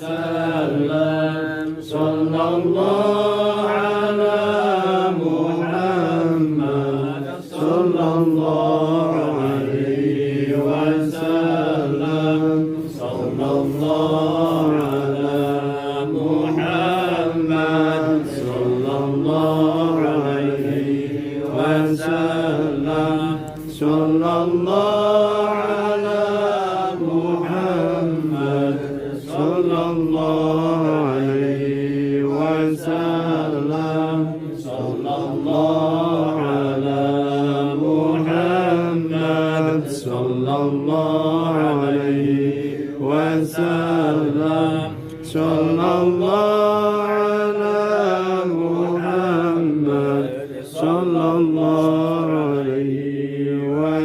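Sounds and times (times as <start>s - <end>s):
voices chanting in unison: 0.0s - 54.0s.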